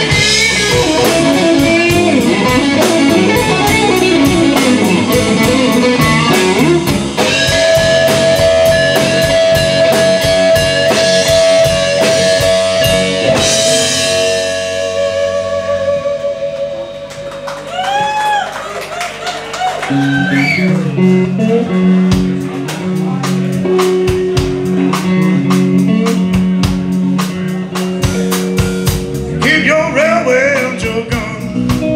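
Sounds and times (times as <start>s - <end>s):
bass guitar: 0.0s - 31.9s
drum kit beat: 0.0s - 31.9s
electric guitar lead: 0.0s - 31.9s.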